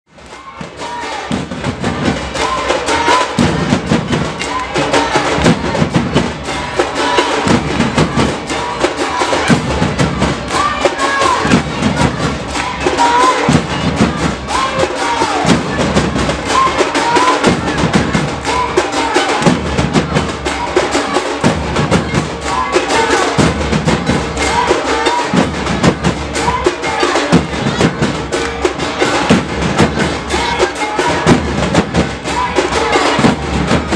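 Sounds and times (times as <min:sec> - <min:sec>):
fast steady drumming: 0:00.1 - 0:33.9
voices chanting: 0:00.2 - 0:33.9.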